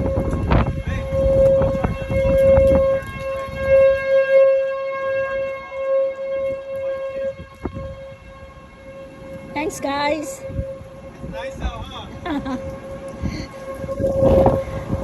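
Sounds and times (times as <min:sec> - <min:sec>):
tornado warning siren: 0:00.0 - 0:15.0
wind buffeting microphone: 0:00.0 - 0:15.0.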